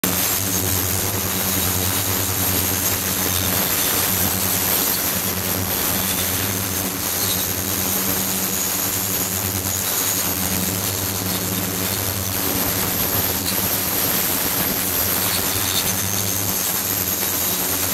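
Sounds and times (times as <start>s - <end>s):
steady machine hum: 0.0s - 17.9s.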